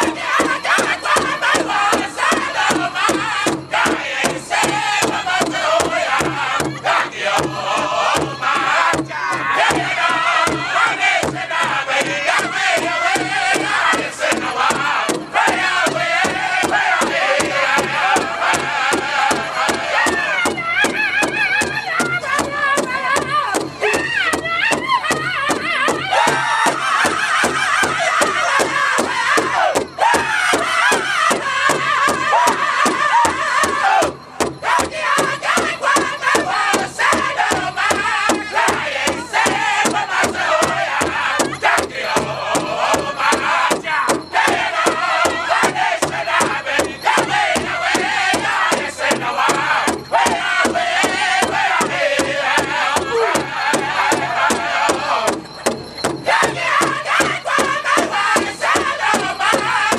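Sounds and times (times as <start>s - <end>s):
large hide drum beating: 0.0s - 59.9s
men singing in high voices: 0.0s - 59.9s.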